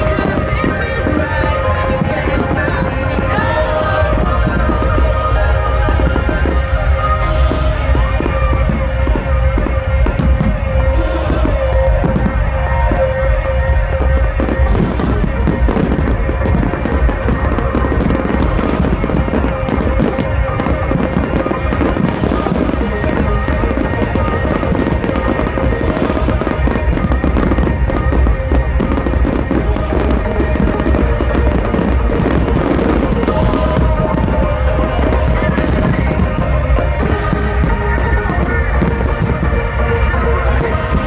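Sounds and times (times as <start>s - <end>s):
fireworks bangs and crackles: 0.0s - 41.0s
loud music with heavy bass: 0.0s - 41.0s.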